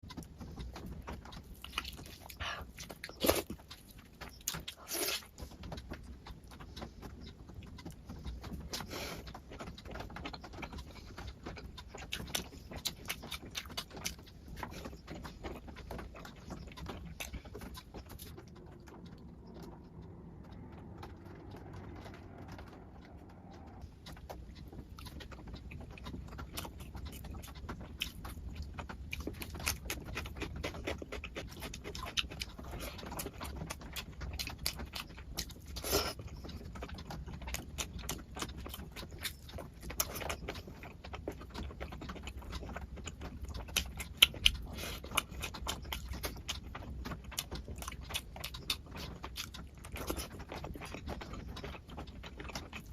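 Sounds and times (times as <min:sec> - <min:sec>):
person chewing and smacking: 0:00.0 - 0:52.9.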